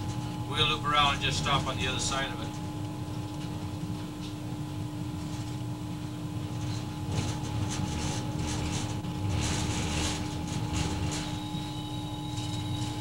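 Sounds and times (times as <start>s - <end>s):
locomotive low rumble: 0.0s - 13.0s.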